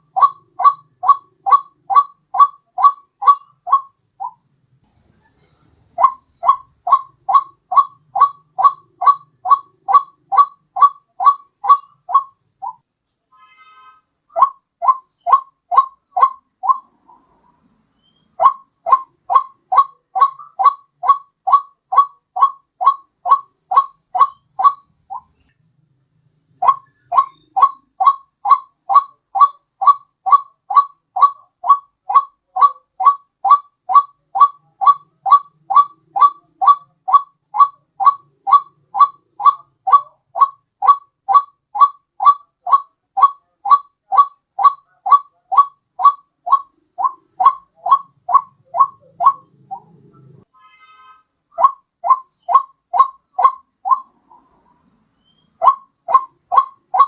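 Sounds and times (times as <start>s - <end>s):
waterhen calling: 0.0s - 4.4s, 5.9s - 12.8s, 14.3s - 17.4s, 18.0s - 25.5s, 26.6s - 50.5s, 51.6s - 57.0s.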